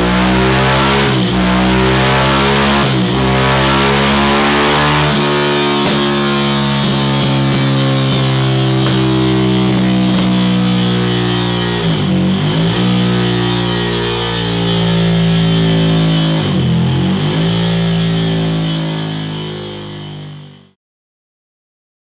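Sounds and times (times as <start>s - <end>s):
motorcycle engine revving on dyno: 0.0s - 20.8s.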